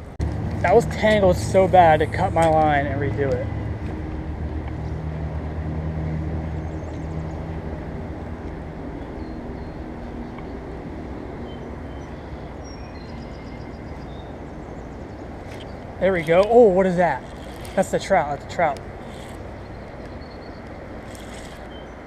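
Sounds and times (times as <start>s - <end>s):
rushing background noise: 0.0s - 22.0s.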